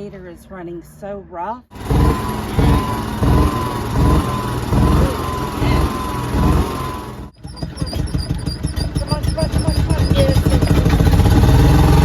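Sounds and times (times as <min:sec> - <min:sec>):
utility vehicle engine running rough: 0:01.7 - 0:12.0.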